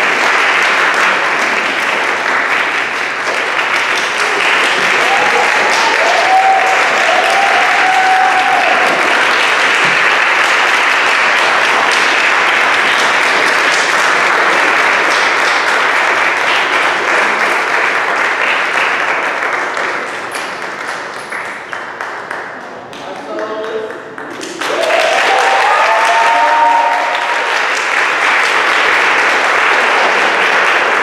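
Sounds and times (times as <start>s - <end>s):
audience applauding: 0.0s - 31.0s.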